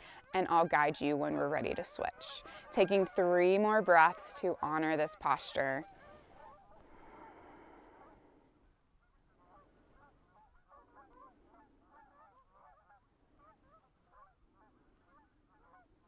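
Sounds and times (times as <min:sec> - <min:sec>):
birds honking: 0:00.0 - 0:08.2, 0:08.8 - 0:16.0.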